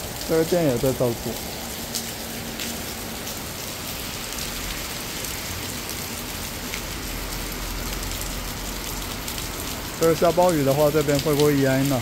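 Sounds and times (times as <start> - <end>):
heavy rain on a wet road: 0.0 - 12.0.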